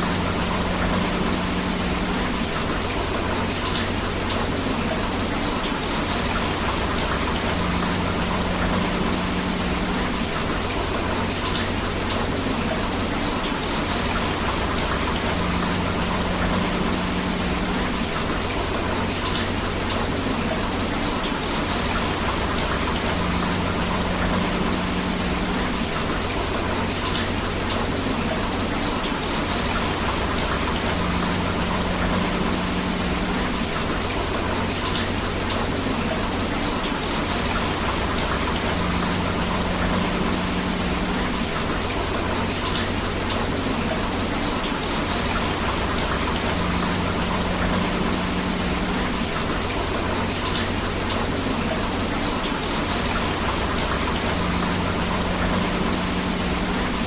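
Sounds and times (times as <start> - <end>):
river water flowing: 0.0 - 57.0
steady rain: 0.0 - 57.0.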